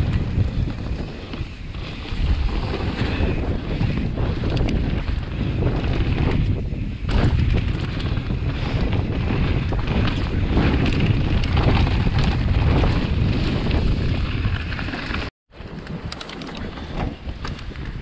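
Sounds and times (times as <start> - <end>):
bike tyres on dirt trail: 0.0 - 18.0
wind buffeting microphone: 0.0 - 18.0.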